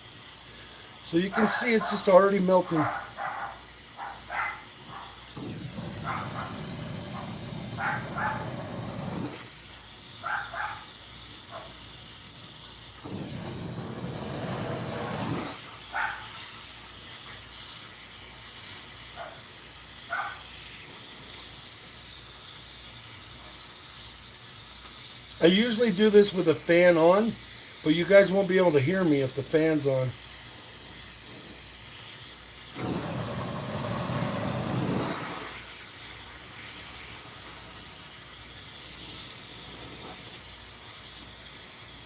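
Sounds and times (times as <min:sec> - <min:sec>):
torch flame hissing: 0:00.0 - 0:42.0.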